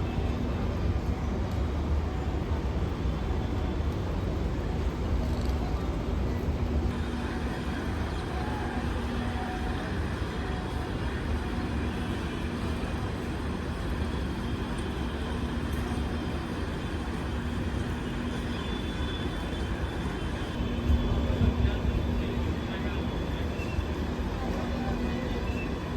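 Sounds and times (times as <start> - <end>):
train rumbling: 0.0 - 25.9.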